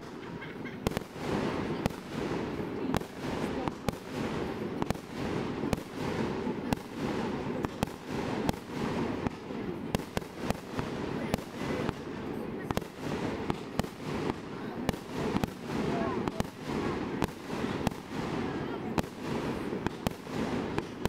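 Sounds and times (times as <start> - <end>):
fireworks bursting bangs: 0.0 - 21.0.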